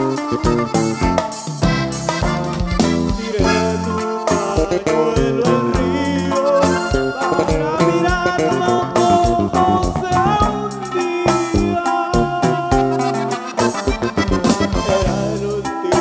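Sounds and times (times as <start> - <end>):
bass notes: 0.0 - 16.0
button accordion melody: 0.0 - 16.0
steady drum beat: 0.0 - 16.0
person singing: 2.9 - 16.0.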